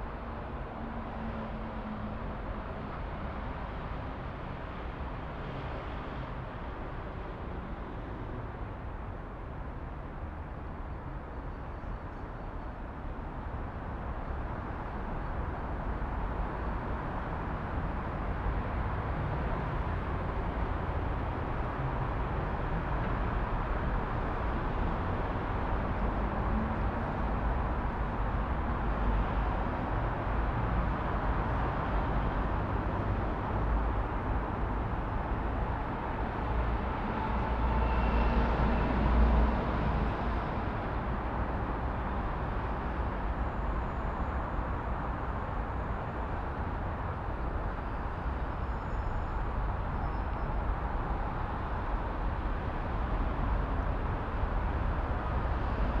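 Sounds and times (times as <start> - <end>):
rumble of passing cars: 0.0 - 56.0.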